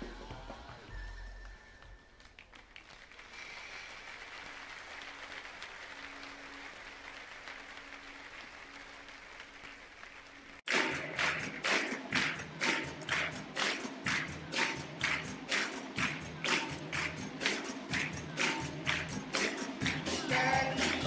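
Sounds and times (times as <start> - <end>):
music: 0.0 - 2.6, 5.4 - 21.0
audience applauding softly: 1.4 - 21.0.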